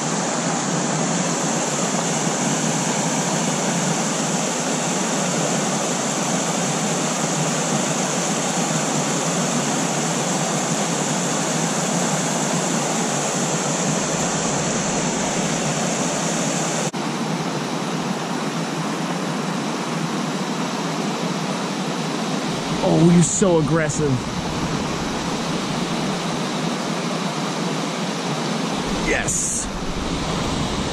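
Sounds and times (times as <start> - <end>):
creek water rushing: 0.0 - 16.9, 22.2 - 30.9.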